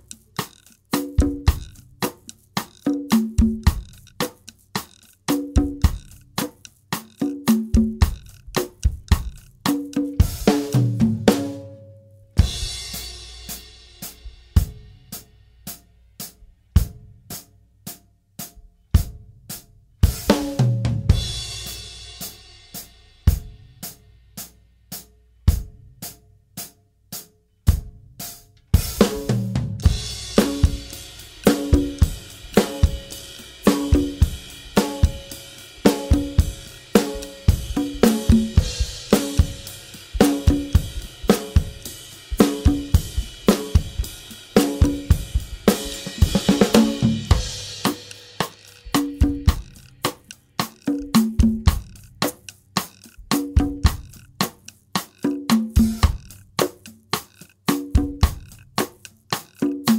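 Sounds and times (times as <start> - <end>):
drum kit and percussion groove: 0.0 - 59.9.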